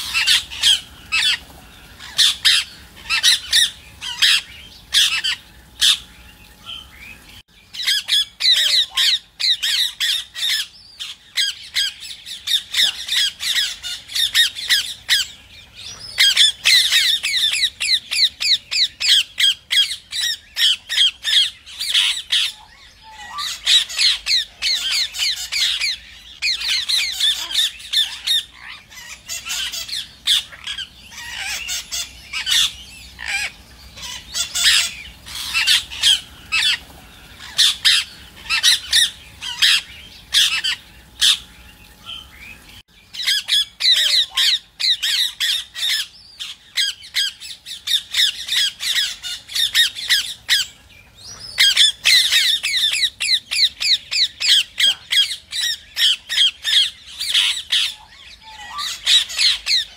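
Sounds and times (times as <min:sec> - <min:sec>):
parakeets squawking: 0:00.0 - 0:59.9.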